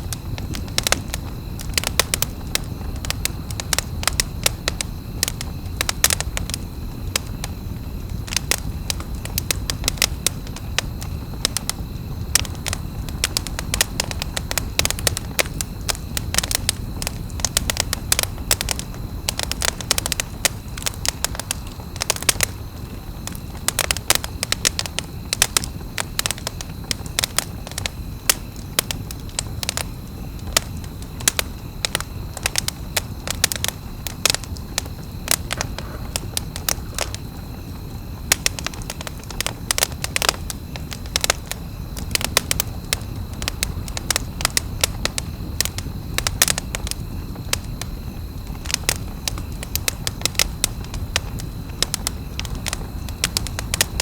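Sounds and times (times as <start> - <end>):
campfire crackling and popping: 0.0 - 54.0
fire low rumble: 0.0 - 54.0.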